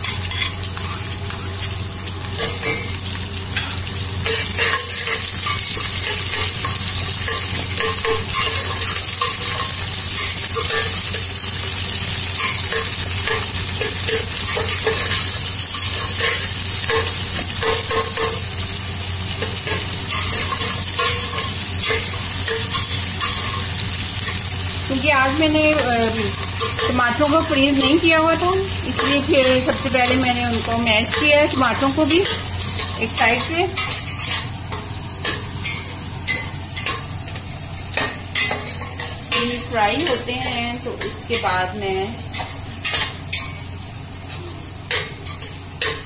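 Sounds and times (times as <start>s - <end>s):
onions sizzling in oil: 0.0s - 46.0s.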